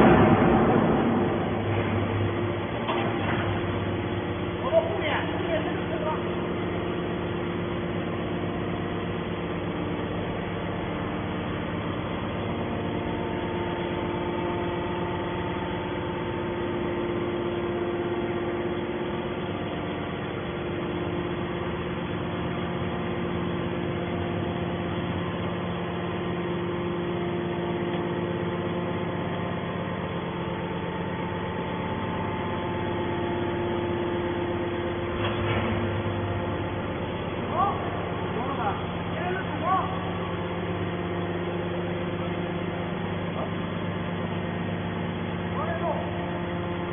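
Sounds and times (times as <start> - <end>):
baler machine hum: 0.0 - 46.9.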